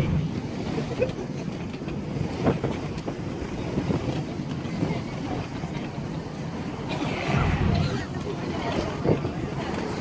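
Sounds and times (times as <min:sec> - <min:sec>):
boat engine rumble: 0:00.0 - 0:10.0
wind buffeting microphone: 0:00.0 - 0:10.0.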